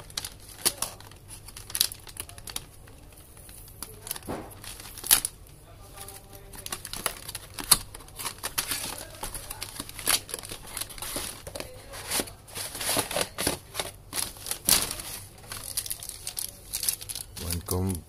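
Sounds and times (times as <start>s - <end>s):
plastic and cardboard crinkling: 0.0s - 18.0s.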